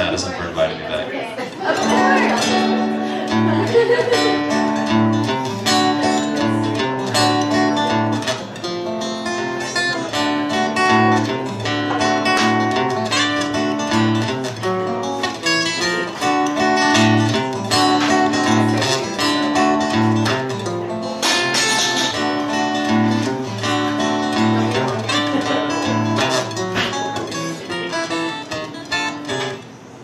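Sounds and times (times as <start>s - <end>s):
acoustic guitar strumming chords: 1.6s - 30.0s.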